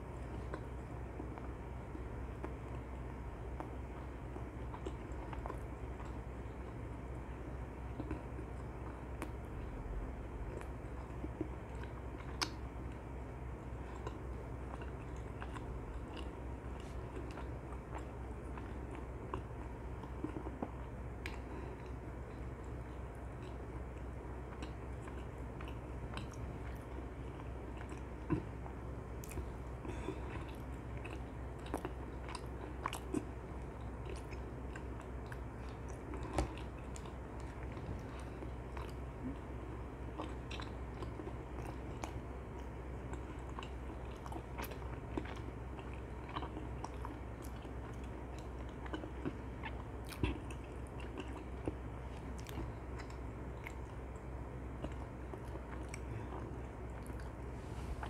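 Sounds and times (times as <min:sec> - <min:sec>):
chewing with mouth clicks: 0:00.0 - 0:58.0.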